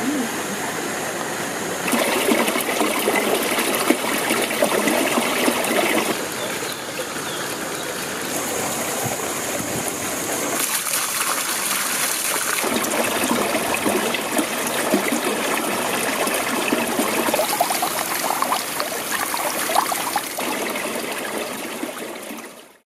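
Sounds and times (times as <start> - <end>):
water trickling and gurgling: 1.2 - 22.8.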